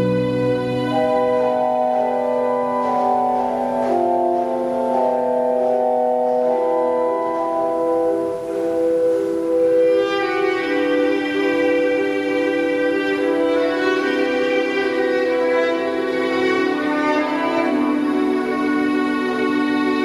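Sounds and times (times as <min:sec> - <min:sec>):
pipe organ playing slow chords: 0:00.0 - 0:20.0.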